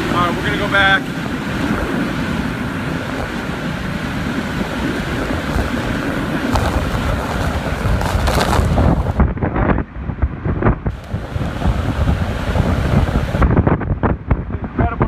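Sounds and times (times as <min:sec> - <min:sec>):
hurricane winds buffeting microphone: 0:00.0 - 0:15.0.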